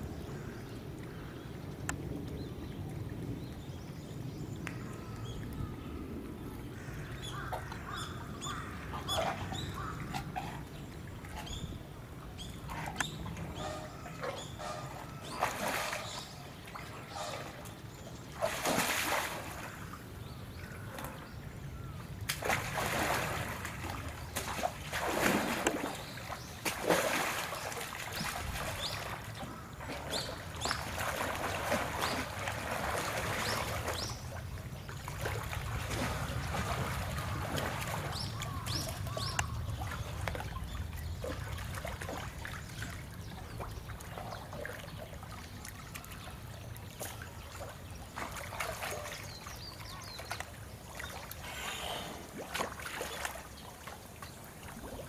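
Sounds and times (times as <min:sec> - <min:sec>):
water splashing and sloshing: 0:00.0 - 0:55.0.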